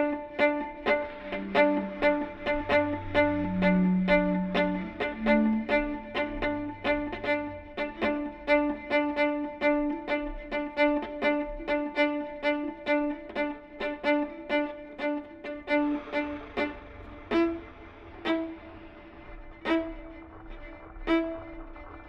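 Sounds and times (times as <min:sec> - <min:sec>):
viola playing repeated notes: 0:00.0 - 0:21.8.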